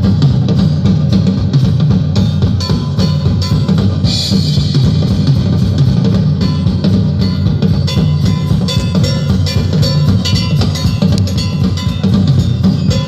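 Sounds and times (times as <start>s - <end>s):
bass drum and snare strokes: 0.0s - 13.0s
cymbal wash: 0.0s - 13.0s
jazz swing band playing: 1.2s - 13.0s.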